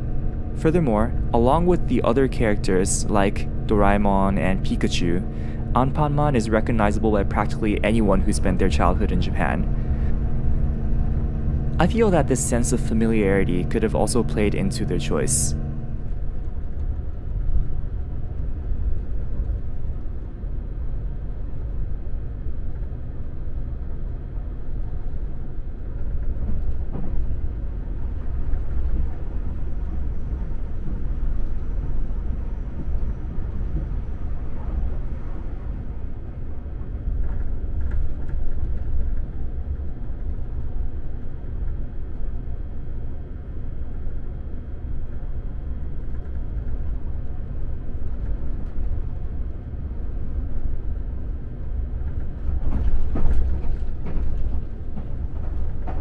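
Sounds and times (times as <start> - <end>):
train rumbling along track: 0.0 - 21.8, 24.6 - 41.9, 46.0 - 56.0.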